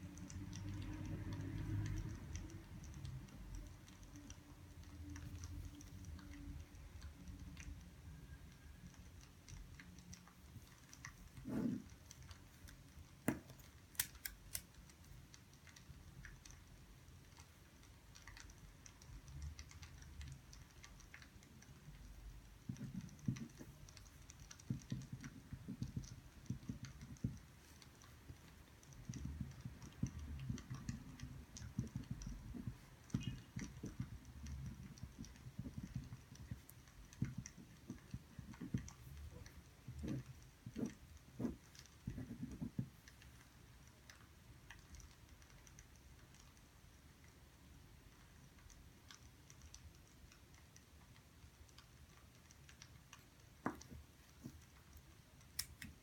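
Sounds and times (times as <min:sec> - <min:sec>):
faint clicks: 0:00.1 - 0:56.0.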